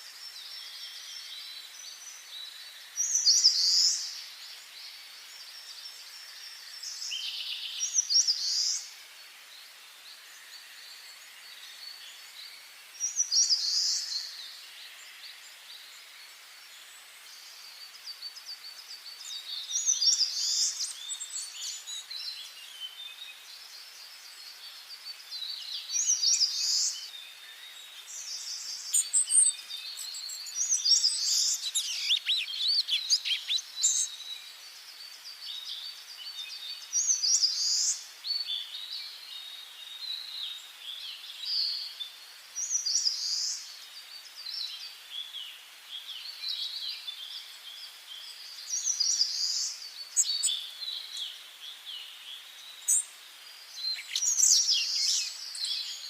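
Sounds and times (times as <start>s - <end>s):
soft bird chirping: 0.0s - 56.0s.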